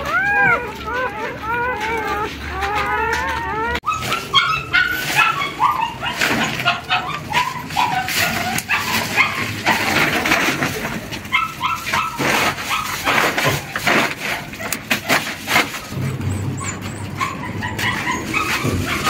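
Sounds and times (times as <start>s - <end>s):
puppies whimpering and yelping: 0.0s - 19.0s.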